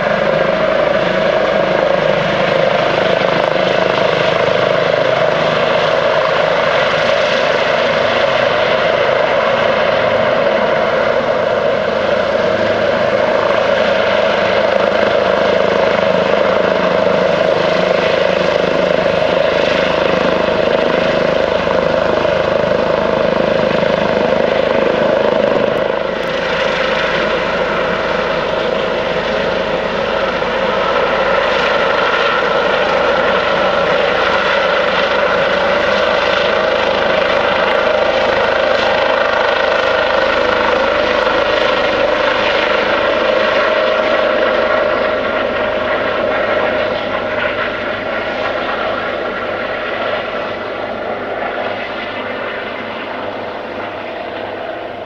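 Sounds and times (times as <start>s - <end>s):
constant tone: 0.0s - 55.0s
helicopter rotor and engines: 0.0s - 55.0s.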